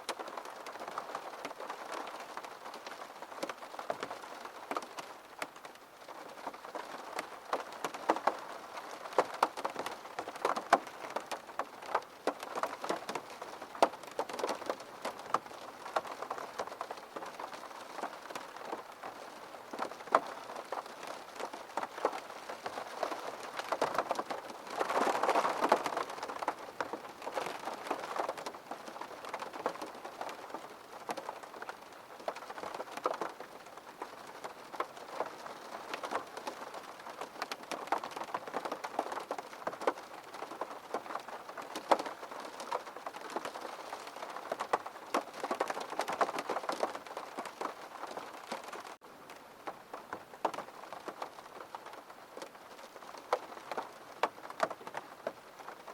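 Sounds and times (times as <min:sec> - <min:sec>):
rain pattering on window: 0:00.0 - 0:55.9.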